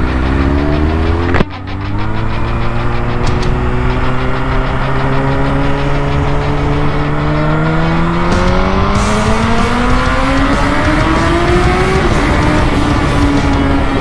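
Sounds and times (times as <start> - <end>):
motorcycle engine accelerating hard: 0.0 - 14.0.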